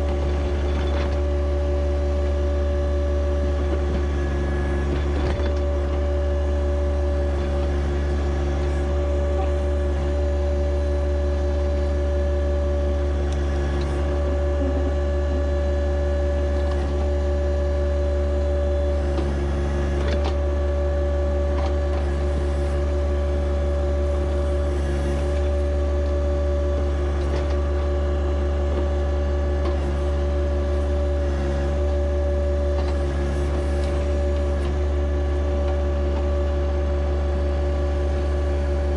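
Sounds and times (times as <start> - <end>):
engine whine: 0.0 - 38.9
tractor diesel engine running: 0.0 - 38.9.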